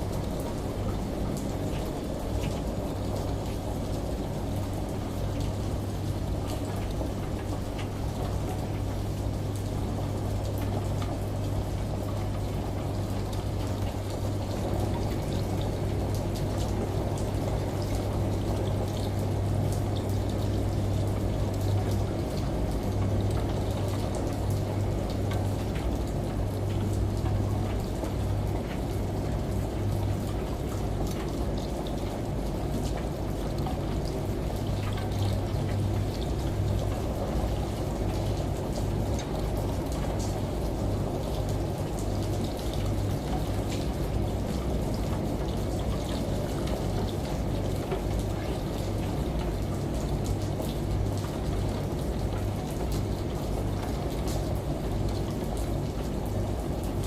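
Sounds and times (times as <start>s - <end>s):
running water and rain: 0.0s - 57.0s
washing machine hum: 0.0s - 57.0s.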